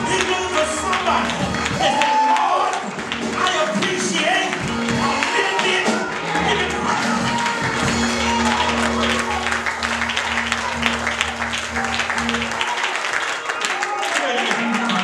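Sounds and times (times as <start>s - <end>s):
congregation clapping: 0.0s - 15.0s
gospel church music: 0.0s - 15.0s.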